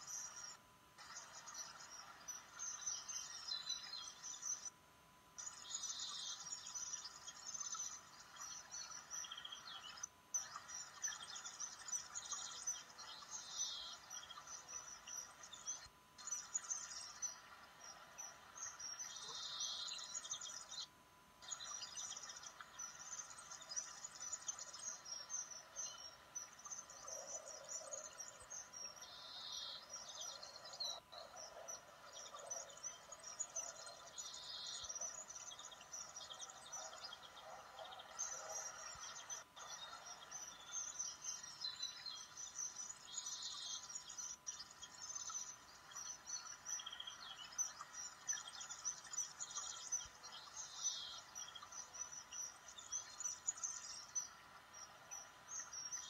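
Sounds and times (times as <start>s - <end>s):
small birds chirping: 0.0s - 4.8s, 5.4s - 56.0s
faint steady hum: 0.0s - 56.0s.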